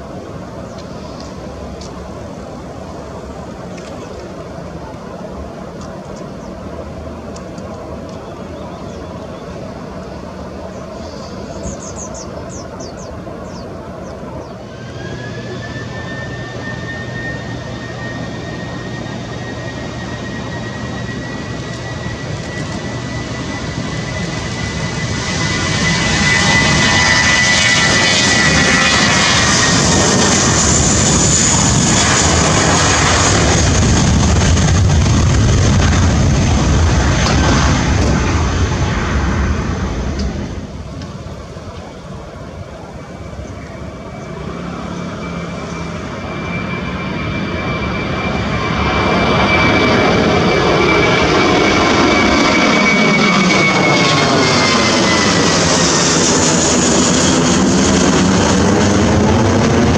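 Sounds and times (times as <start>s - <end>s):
jet airliner passing overhead: 0.0s - 59.9s
jet engines whining on runway: 0.0s - 59.9s.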